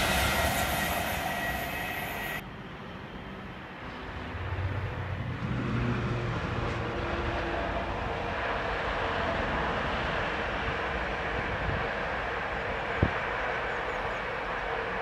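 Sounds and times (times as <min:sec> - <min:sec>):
diesel locomotive engine drone: 0:00.0 - 0:15.0
train rumbling: 0:00.0 - 0:15.0.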